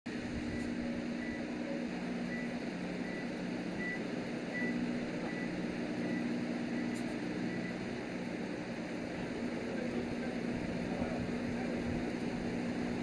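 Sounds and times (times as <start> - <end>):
mechanical engine hum: 0.1 - 13.0.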